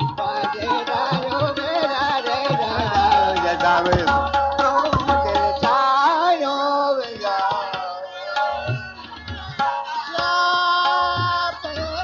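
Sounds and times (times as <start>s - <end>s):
tabla: 0.0s - 12.0s.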